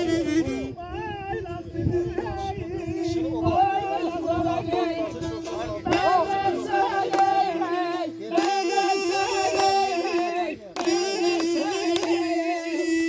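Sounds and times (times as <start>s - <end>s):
ornamented wavering folk melody: 0.0s - 13.0s.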